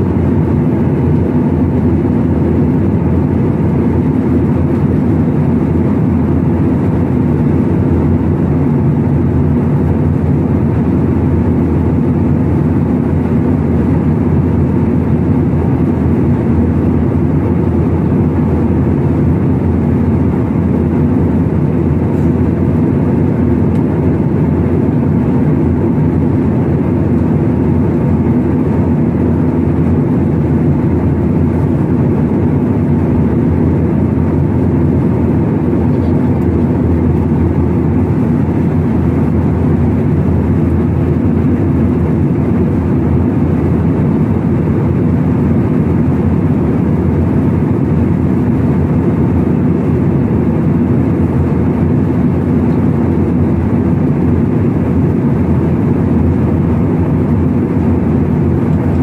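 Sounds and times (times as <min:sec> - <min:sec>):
jet airliner cabin hum: 0:00.0 - 0:59.0.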